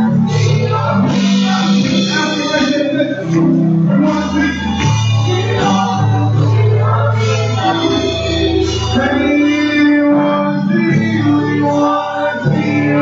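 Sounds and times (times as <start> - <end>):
drum kit: 0.0 - 13.0
keyboard: 0.0 - 13.0.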